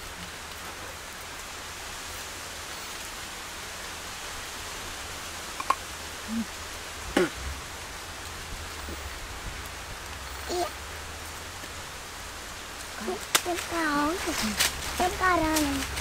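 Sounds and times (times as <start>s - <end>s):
forest background hiss: 0.0s - 16.0s.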